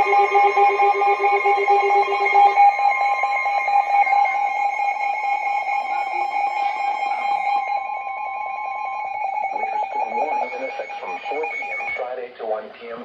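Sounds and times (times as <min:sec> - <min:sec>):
electronic alert tone: 0:00.0 - 0:12.2.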